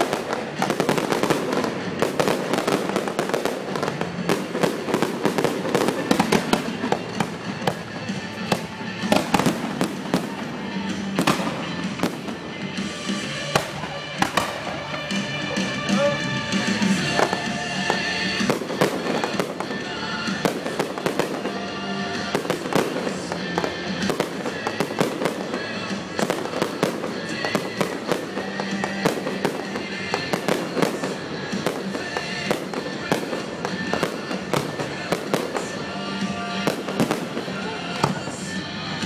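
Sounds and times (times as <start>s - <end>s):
fireworks bursting: 0.0s - 39.0s
music playing: 0.0s - 39.0s.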